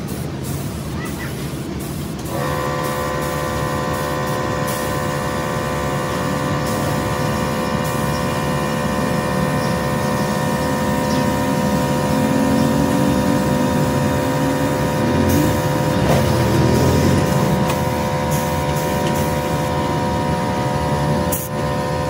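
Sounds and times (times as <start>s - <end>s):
paint spray gun hissing: 0.0s - 22.0s
steady mechanical hum: 0.0s - 22.0s.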